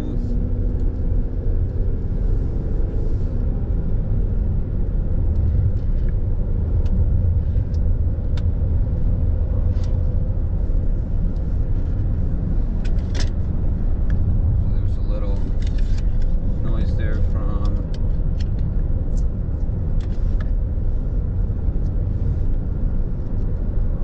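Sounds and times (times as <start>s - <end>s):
road and engine rumble in car cabin: 0.0s - 24.0s.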